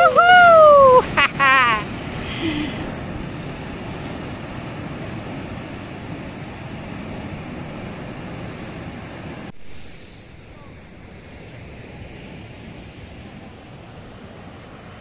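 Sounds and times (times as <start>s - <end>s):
surf breaking over rocks: 0.0s - 15.0s.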